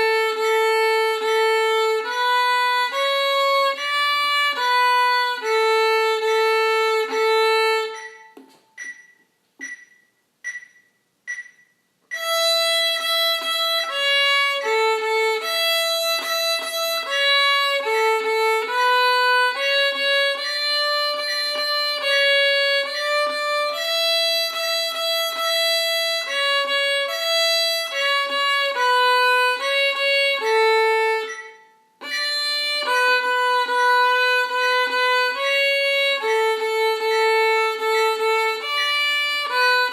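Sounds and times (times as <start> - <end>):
solo violin playing: 0.0 - 8.4, 12.2 - 39.9.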